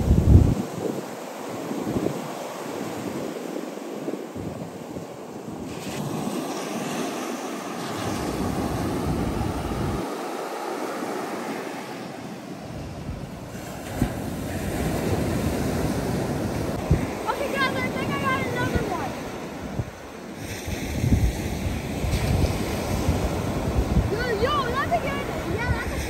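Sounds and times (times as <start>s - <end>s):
ocean surf washing onto beach: 0.0s - 26.0s
wind gusting over microphone: 0.0s - 26.0s.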